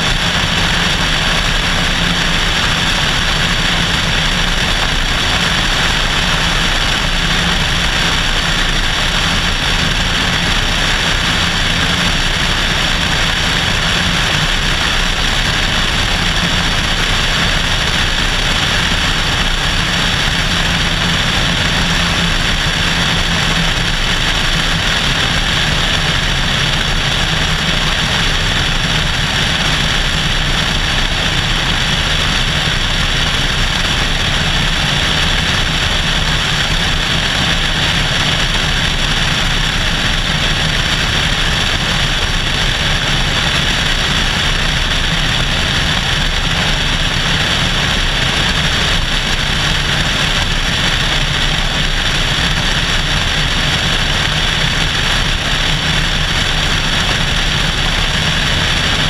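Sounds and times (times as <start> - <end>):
airplane engine and propeller: 0.0 - 59.0.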